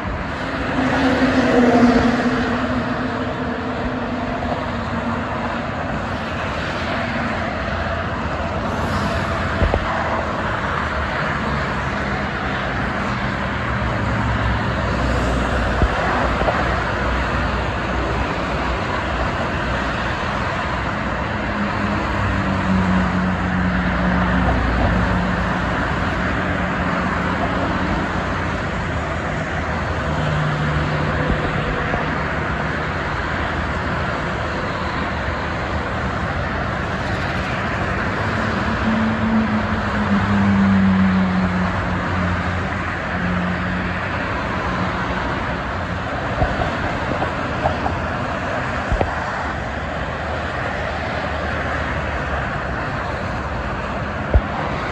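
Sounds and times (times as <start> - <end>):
expressway traffic noise: 0.0 - 54.9.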